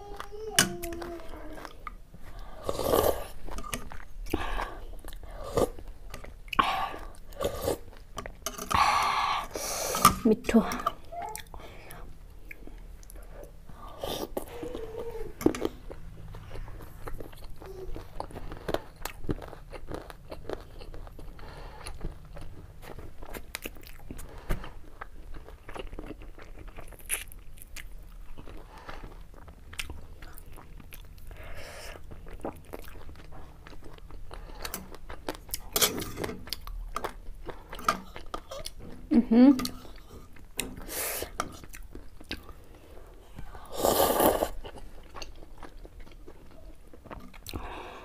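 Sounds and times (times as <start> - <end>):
person chewing food: 0.1 - 10.0, 10.8 - 48.0.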